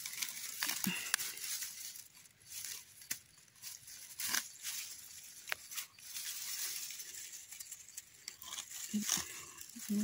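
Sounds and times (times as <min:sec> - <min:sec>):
knife scraping grass and soil: 0:00.0 - 0:10.0.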